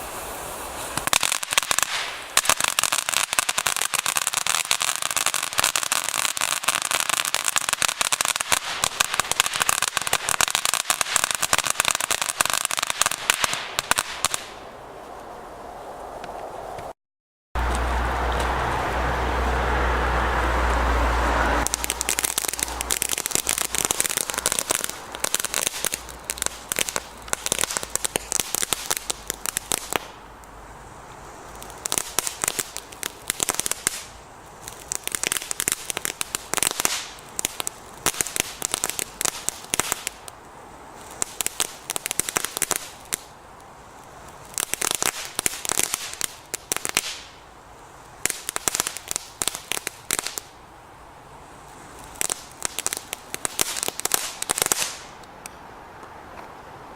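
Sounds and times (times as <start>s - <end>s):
firework crackling: 0.0s - 16.8s, 17.6s - 55.5s
firework rushing noise: 0.0s - 16.9s, 17.6s - 50.6s, 51.3s - 55.3s.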